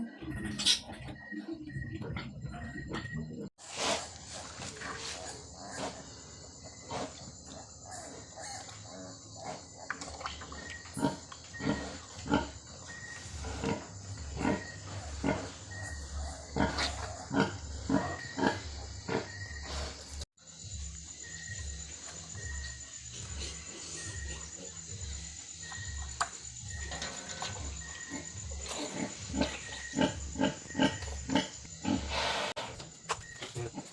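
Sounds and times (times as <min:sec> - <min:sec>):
pigs grunting: 0:00.0 - 0:20.3, 0:21.3 - 0:33.9.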